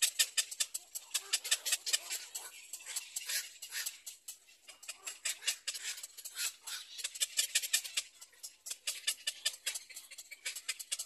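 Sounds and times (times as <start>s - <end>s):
heron nestlings clicking calls: 0.0s - 11.0s.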